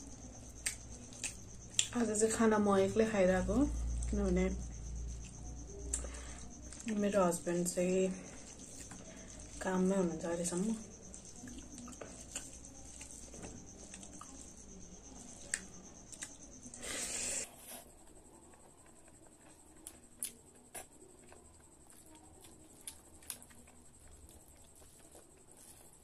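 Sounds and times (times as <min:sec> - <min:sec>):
wet chewing: 0:00.0 - 0:02.1, 0:03.8 - 0:26.0.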